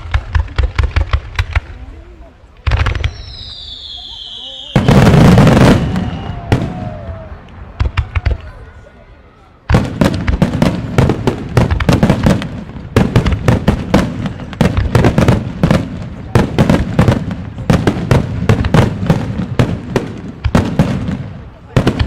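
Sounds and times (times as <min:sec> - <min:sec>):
fireworks bursting: 0:00.0 - 0:08.8, 0:09.6 - 0:22.0.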